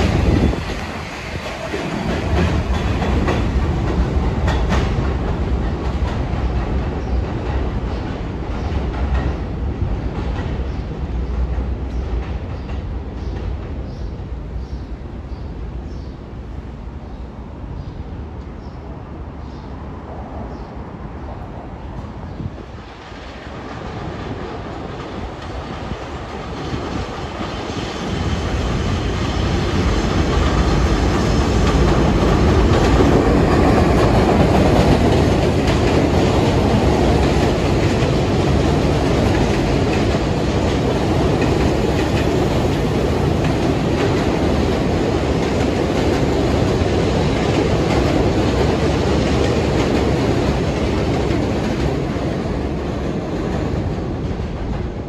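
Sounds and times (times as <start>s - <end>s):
train wheels rumbling on rails: 0.0s - 16.8s, 17.5s - 55.0s.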